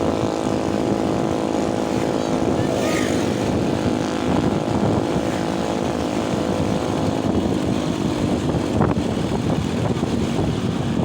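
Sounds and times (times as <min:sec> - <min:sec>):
road and wind noise: 0:00.0 - 0:11.0
vehicle engine droning: 0:00.0 - 0:11.0.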